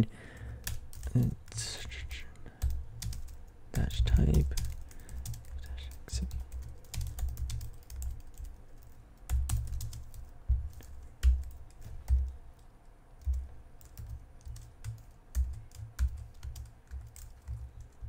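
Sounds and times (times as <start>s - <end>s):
typing on a computer keyboard: 0.3s - 1.6s, 2.6s - 18.0s.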